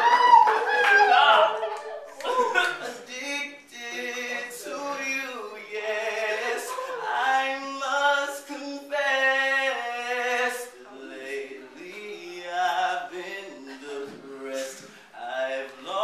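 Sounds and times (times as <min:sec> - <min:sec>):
person singing unaccompanied: 0:02.2 - 0:16.0.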